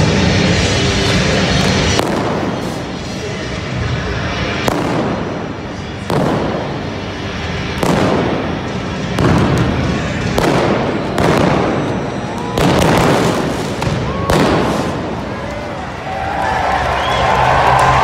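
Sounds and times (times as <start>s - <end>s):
flame cannon blasts: 0.1s - 3.6s, 4.4s - 15.6s.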